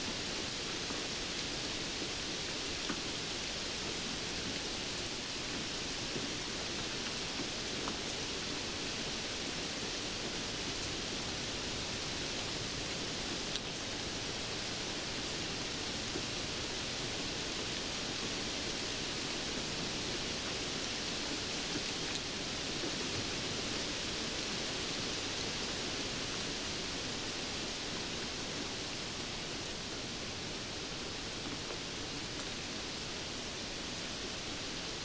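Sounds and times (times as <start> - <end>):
faint patter ticks: 0.0 - 35.0
steady rain hiss: 0.0 - 35.0.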